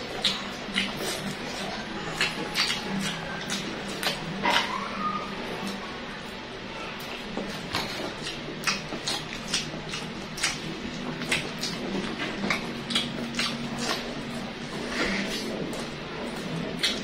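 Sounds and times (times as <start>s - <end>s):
mouth clicks and smacks: 0.0s - 4.8s, 7.4s - 17.0s
chewing: 0.0s - 17.0s
steady low hum: 0.0s - 17.0s.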